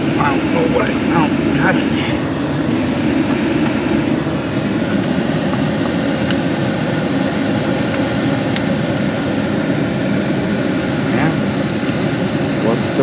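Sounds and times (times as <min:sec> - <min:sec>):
loud machine drone: 0:00.0 - 0:13.0.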